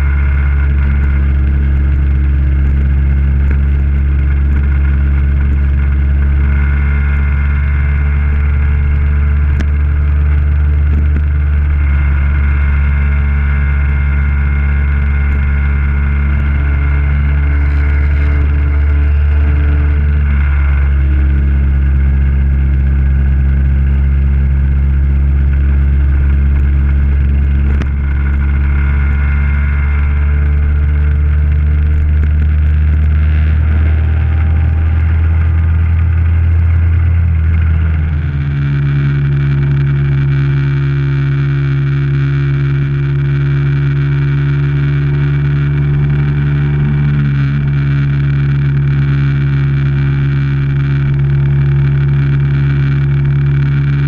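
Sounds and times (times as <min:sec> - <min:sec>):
low wind rumble: 0:00.0 - 0:54.0
scooter engine running: 0:00.0 - 0:54.0.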